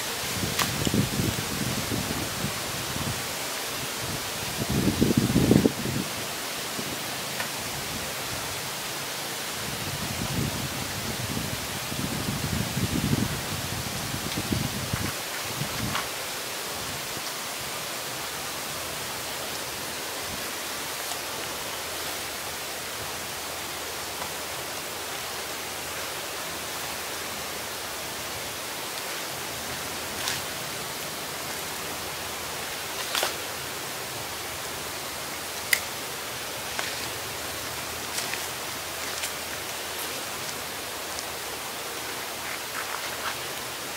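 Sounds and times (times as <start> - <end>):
outdoor background hiss: 0.0 - 43.9.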